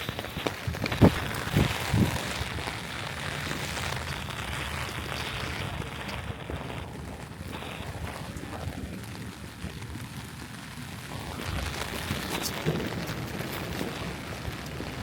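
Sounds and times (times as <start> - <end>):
steady rain on a street: 0.0 - 15.0.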